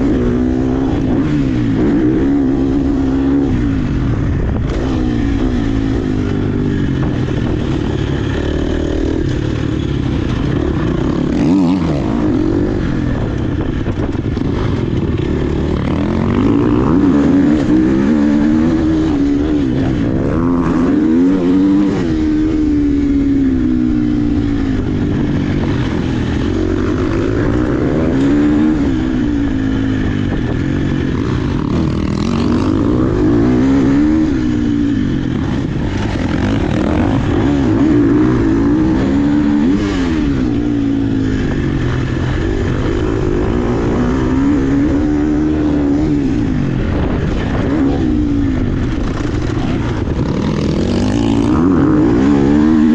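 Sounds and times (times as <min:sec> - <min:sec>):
dirt bike engine revving: 0:00.0 - 0:52.9
wind and ground noise rumble: 0:00.0 - 0:52.9.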